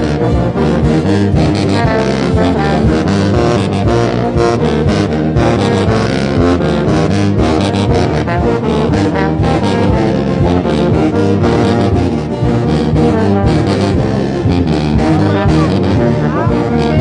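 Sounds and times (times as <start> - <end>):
brass band playing: 0.0 - 17.0
drums keeping time: 0.0 - 17.0
sousaphone low bass notes: 0.0 - 17.0.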